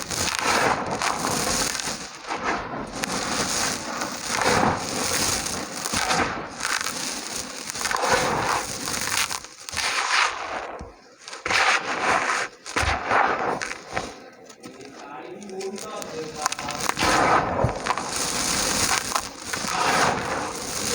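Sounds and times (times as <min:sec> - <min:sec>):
dry dirt crumbling: 0:00.0 - 0:20.9.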